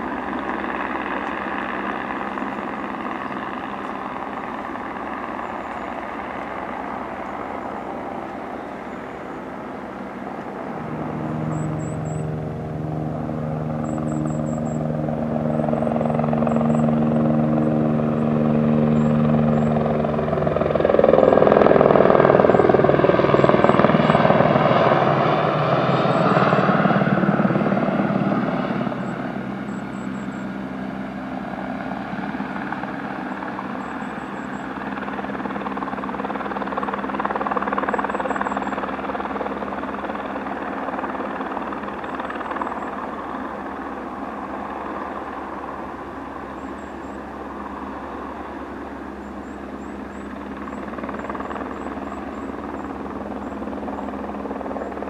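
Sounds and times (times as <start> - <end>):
helicopter rotor and engine hum: 0.0 - 55.0.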